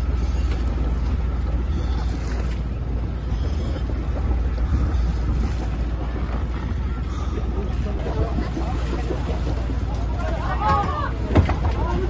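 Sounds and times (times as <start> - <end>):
boat engine rumbling: 0.0 - 12.0
wind buffeting microphone: 0.0 - 12.0.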